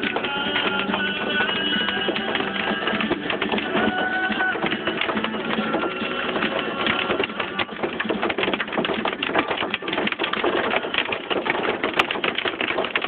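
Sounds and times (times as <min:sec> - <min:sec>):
hail clattering on a car: 0:00.0 - 0:13.0.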